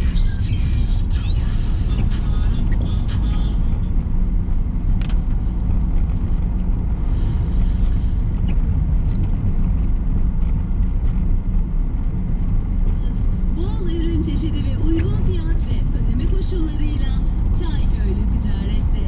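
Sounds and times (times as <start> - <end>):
engine and tyres rumbling: 0.0 - 19.0.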